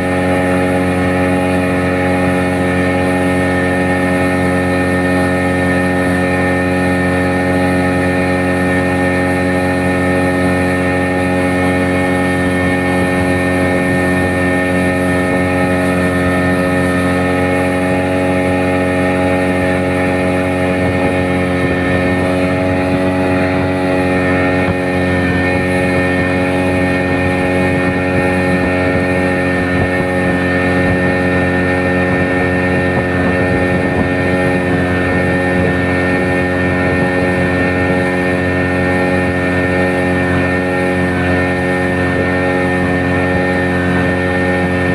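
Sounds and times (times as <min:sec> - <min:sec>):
motorboat engine running: 0:00.0 - 0:44.9.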